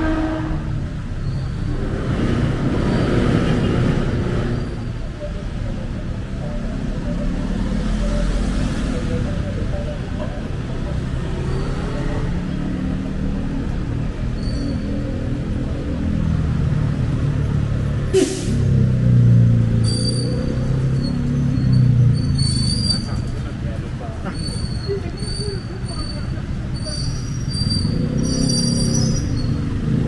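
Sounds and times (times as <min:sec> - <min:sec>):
cars passing: 0:00.0 - 0:30.0
rumble of engines and tyres: 0:00.0 - 0:30.0.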